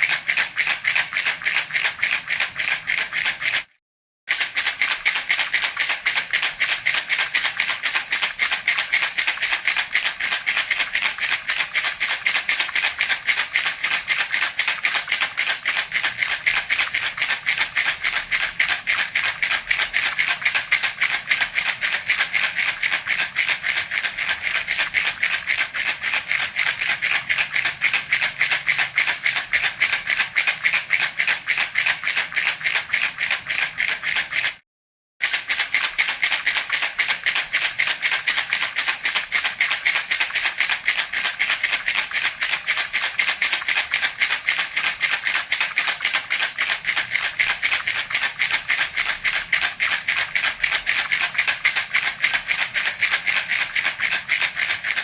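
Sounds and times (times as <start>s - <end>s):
baby rattle shaken: 0.0s - 34.6s, 35.2s - 55.0s.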